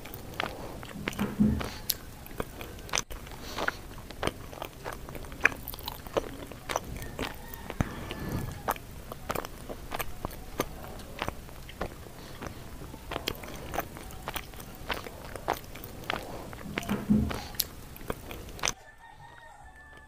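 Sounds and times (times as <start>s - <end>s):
chewing with wet mouth smacks: 0.0s - 18.8s.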